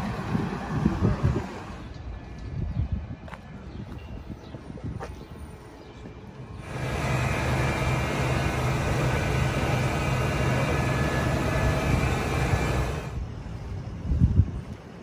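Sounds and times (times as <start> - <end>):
traffic noise: 0.0 - 15.0
vehicle engine rumbling: 0.0 - 15.0.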